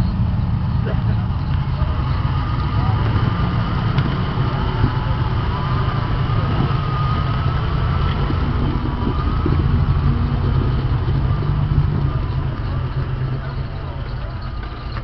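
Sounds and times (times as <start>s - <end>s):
off-road vehicle engine at low revs: 0.0s - 15.0s.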